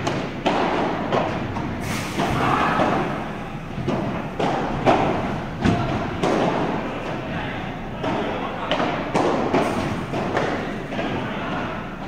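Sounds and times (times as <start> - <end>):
rackets hitting ball with echo: 0.0 - 12.0.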